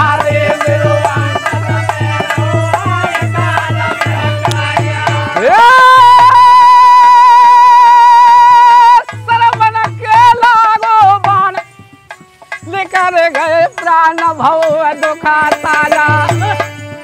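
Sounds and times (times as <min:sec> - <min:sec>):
man singing: 0:00.0 - 0:11.8, 0:12.5 - 0:17.0
dholak drum: 0:00.0 - 0:17.0.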